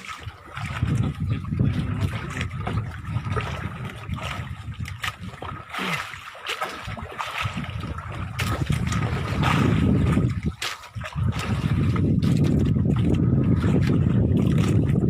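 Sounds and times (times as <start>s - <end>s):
water splashing around boat: 0.0s - 15.0s.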